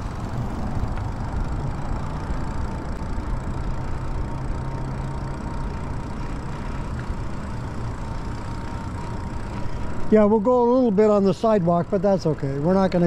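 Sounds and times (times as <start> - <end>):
tyre noise on asphalt: 0.0 - 11.7
thin steady whine: 0.0 - 13.0.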